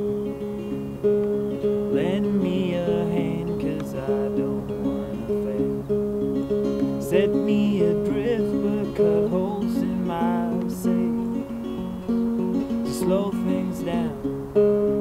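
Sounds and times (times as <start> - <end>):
fingerpicked acoustic guitar: 0.0 - 15.0.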